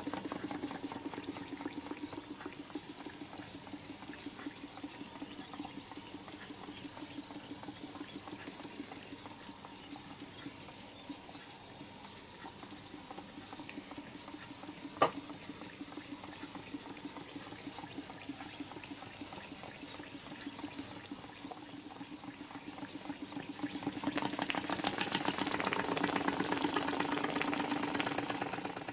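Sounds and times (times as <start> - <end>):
faint quick ticking: 0.0 - 28.9
steam engine exhaust beats: 0.0 - 28.9
toy steam engine hissing: 0.0 - 28.9.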